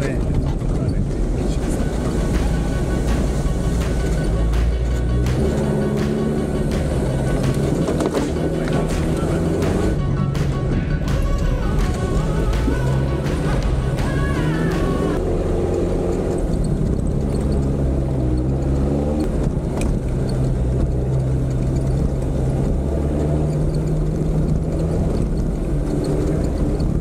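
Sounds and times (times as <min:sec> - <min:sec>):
engine running under load: 0:00.0 - 0:27.0.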